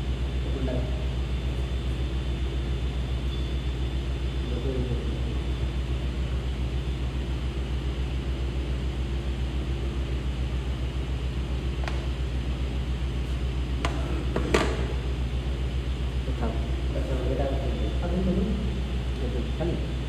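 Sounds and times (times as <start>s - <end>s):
low pulsing machine hum: 0.0s - 20.0s.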